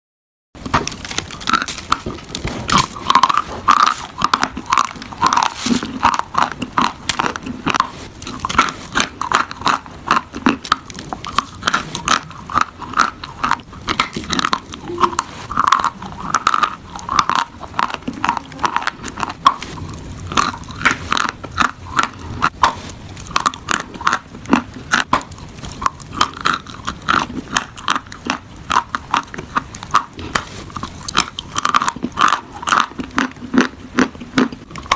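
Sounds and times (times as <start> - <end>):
chalk crunching in mouth: 0.6 - 34.9.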